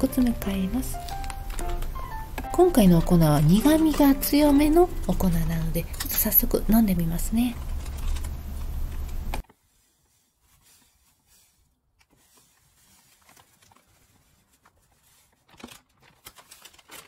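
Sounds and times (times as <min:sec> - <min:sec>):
foil bag crinkling: 0:00.0 - 0:17.0.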